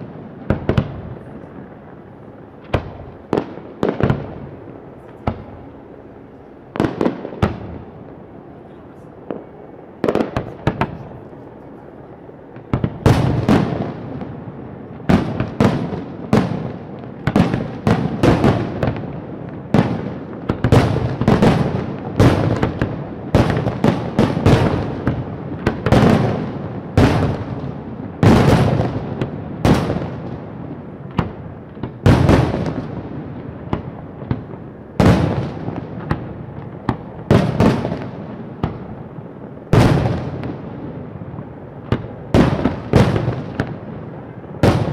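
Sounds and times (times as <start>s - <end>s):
fireworks bangs: 0.0s - 44.9s.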